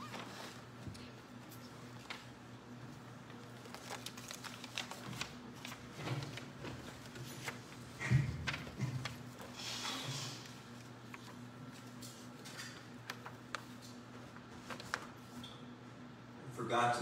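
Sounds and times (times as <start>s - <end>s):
papers rustling: 0.0s - 15.5s.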